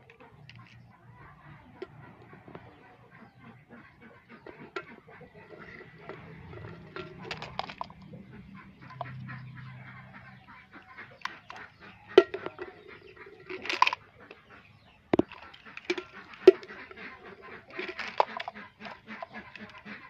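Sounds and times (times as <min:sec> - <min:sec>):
plastic toy trucks clacking: 0:00.0 - 0:20.0.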